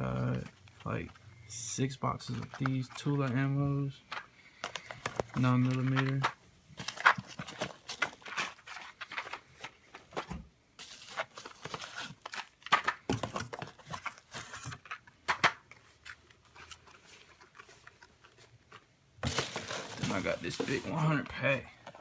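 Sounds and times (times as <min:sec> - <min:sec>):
cardboard boxes rustling and knocking: 0:04.1 - 0:22.0.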